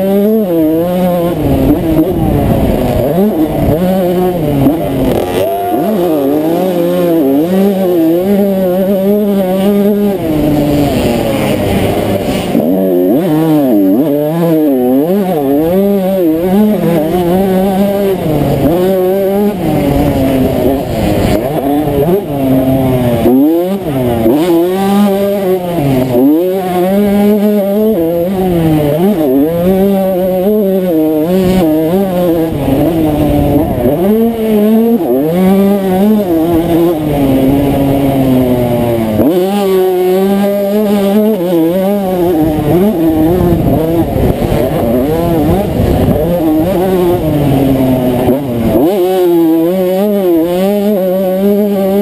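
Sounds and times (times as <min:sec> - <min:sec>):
two-stroke motorcycle engine revving: 0:00.0 - 0:52.0.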